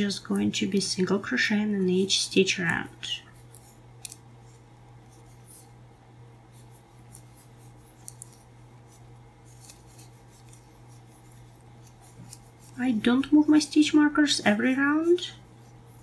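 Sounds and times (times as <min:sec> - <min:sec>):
crochet hook scratching yarn: 0:00.0 - 0:05.8, 0:06.5 - 0:16.0.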